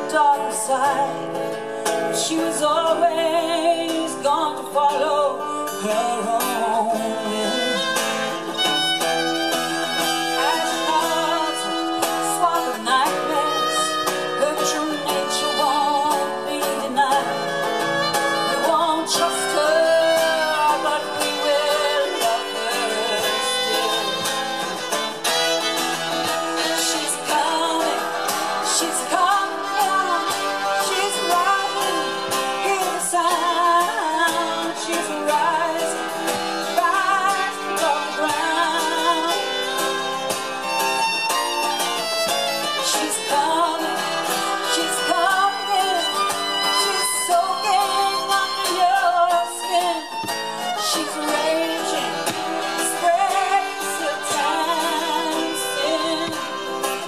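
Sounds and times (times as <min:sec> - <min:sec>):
acoustic guitar playing: 0:00.0 - 0:57.0
woman singing: 0:00.0 - 0:57.0
fiddle playing: 0:06.9 - 0:57.0.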